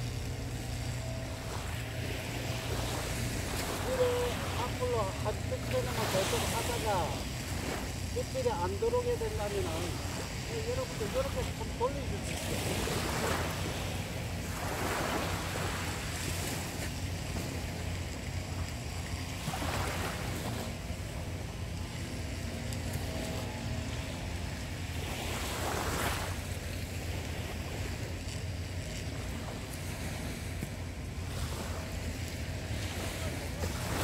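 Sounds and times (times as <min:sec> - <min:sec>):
small waves on sandy shore: 0:00.0 - 0:34.0
wind rumble on microphone: 0:00.0 - 0:34.0.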